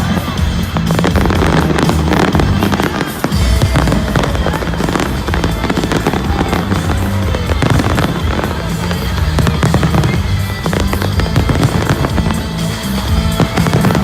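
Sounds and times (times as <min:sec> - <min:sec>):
fireworks bursting and crackling: 0:00.0 - 0:14.0
loud music with heavy bass: 0:00.0 - 0:14.0.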